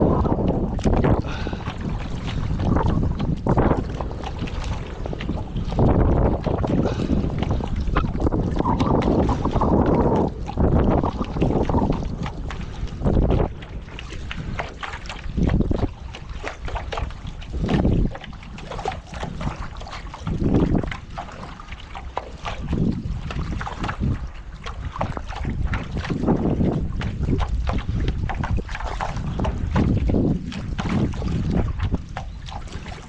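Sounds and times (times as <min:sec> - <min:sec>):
strong wind buffeting microphone: 0:00.0 - 0:33.0
water splashing and sloshing: 0:00.0 - 0:33.0.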